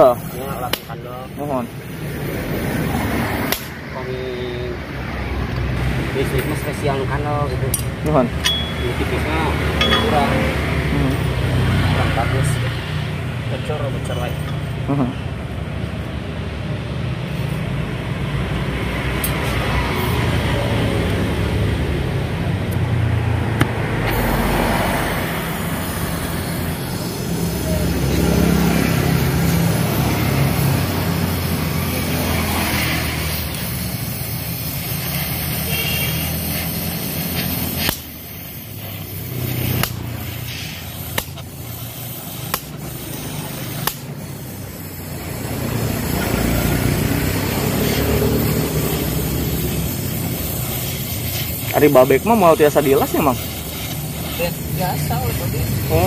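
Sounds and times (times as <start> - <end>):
road traffic rumbling: 0.0 - 56.0
vehicle engine: 0.0 - 56.0.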